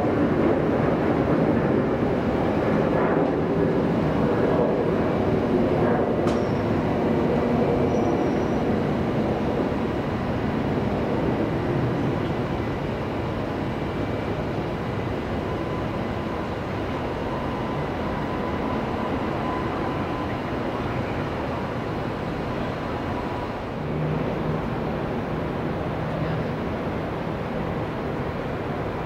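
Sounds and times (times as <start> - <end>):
faint steady whine: 0.0 - 29.0
jet engines roaring: 0.0 - 29.0.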